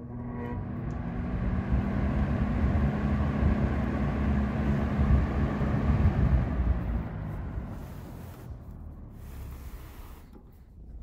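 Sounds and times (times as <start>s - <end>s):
table fan motor hum: 0.0s - 10.3s
fan air rushing: 0.0s - 11.0s.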